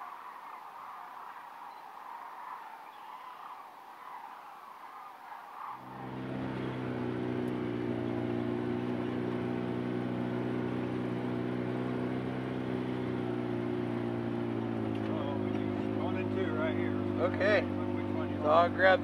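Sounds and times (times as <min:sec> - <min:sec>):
vehicle engine and road drone: 0:00.0 - 0:19.0.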